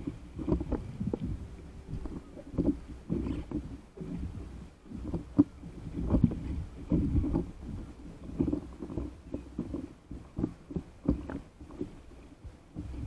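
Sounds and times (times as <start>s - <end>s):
water splashing against paddle board: 0.0s - 13.0s.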